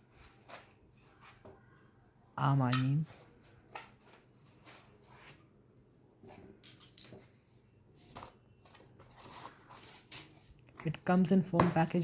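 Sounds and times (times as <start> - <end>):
faint clicks and rustles of packaging: 0.0 - 1.9, 3.0 - 11.0.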